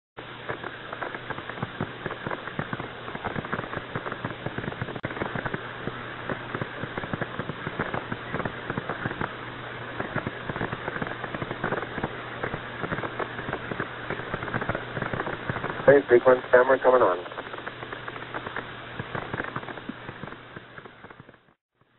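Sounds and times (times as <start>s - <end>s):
low steady hum: 0.2s - 21.9s
radio static crackling: 0.2s - 21.9s.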